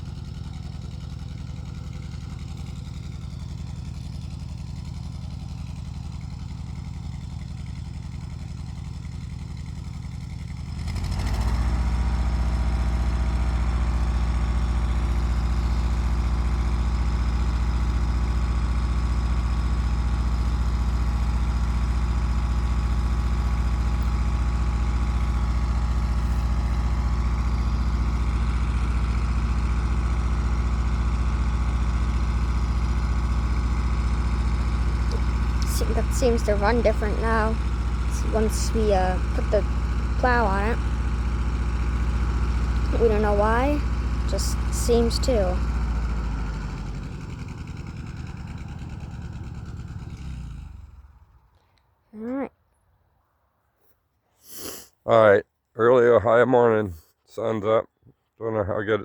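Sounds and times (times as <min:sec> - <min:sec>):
tractor engine idling and revving: 0:00.0 - 0:52.5.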